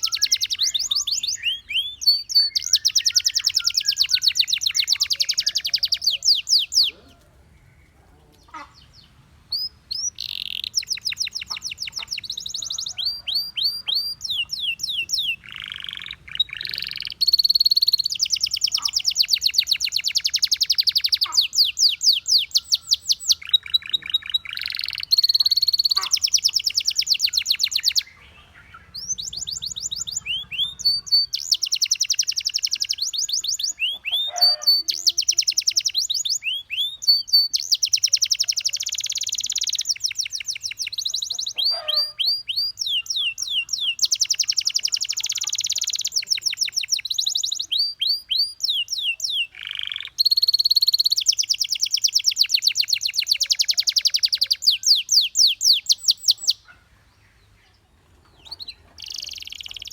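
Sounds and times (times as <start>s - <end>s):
canary singing in trills: 0.0s - 59.9s.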